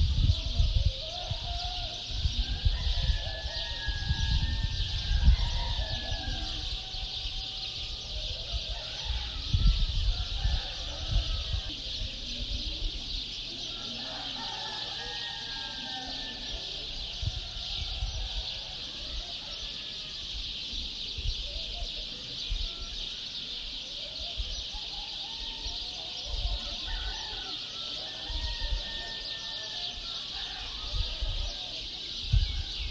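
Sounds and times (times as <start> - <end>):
birds calling: 0.0 - 32.9.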